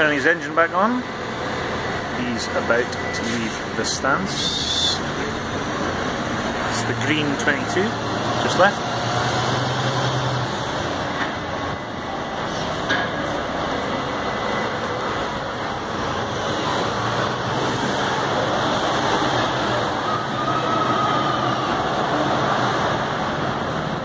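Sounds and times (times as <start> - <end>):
bus engine hum: 0.0 - 24.0
city street traffic: 0.0 - 24.0.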